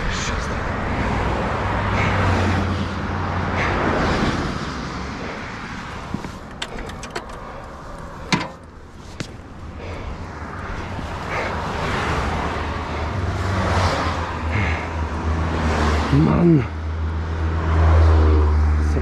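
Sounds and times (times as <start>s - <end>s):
road vehicle passing: 0.0s - 19.0s.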